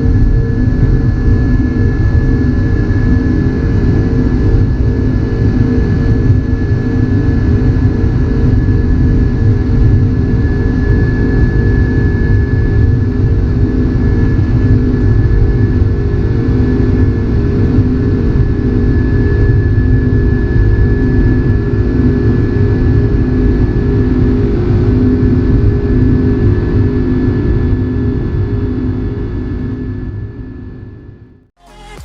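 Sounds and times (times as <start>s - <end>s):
jet engines rumbling: 0.0s - 29.6s
thin steady engine whine: 0.0s - 31.5s.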